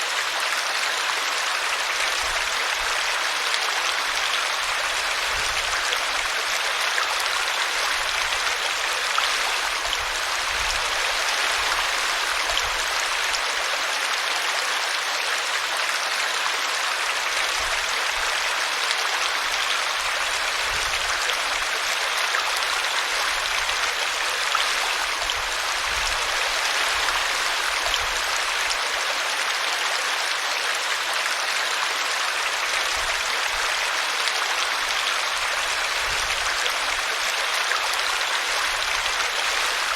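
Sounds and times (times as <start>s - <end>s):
brook flowing over tree root: 0.0s - 39.9s.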